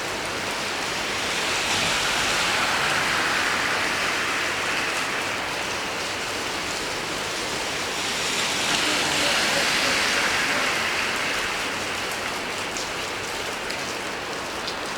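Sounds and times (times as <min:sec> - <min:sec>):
rain falling: 0:00.0 - 0:14.9.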